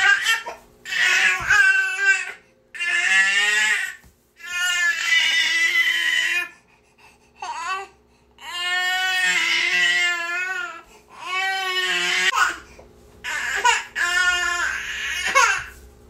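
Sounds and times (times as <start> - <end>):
infant crying: 0.0 - 6.6, 7.4 - 12.6, 13.2 - 15.8.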